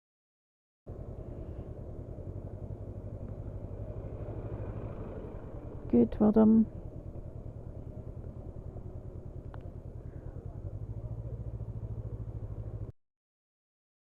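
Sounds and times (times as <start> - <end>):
motorcycle engine running: 0.9 - 12.9.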